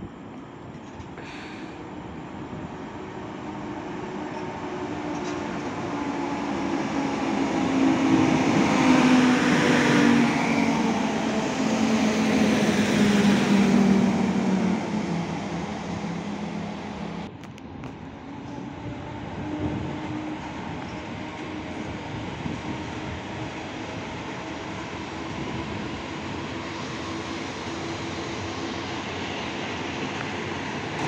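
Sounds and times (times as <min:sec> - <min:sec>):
electric locomotive hum: 0:00.0 - 0:31.0
train rolling noise: 0:00.0 - 0:31.0.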